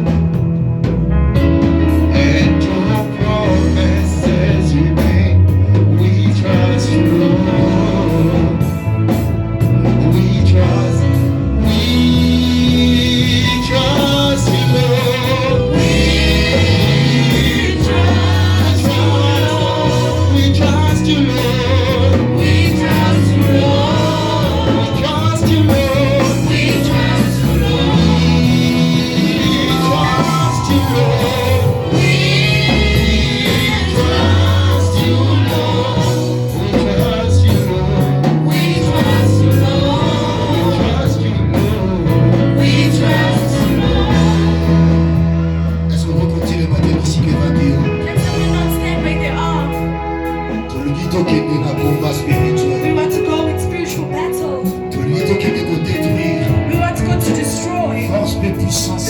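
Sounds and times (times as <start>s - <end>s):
gospel singers with band: 0.0s - 59.0s
strong bass line: 0.0s - 59.0s.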